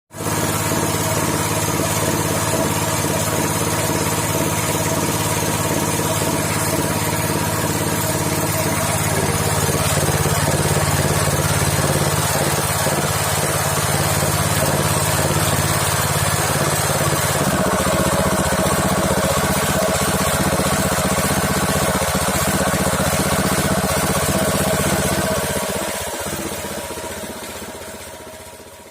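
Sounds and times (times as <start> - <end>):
pressure washer droning: 0.1 - 28.9.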